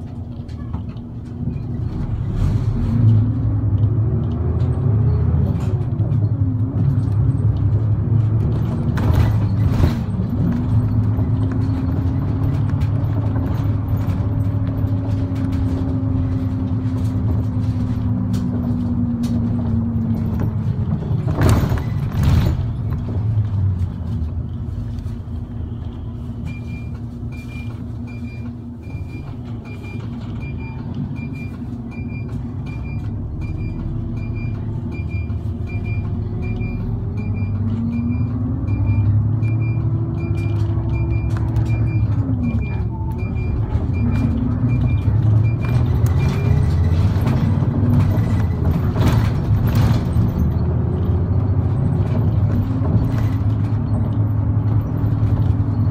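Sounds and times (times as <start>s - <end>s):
bus engine and road noise: 0.0s - 55.9s.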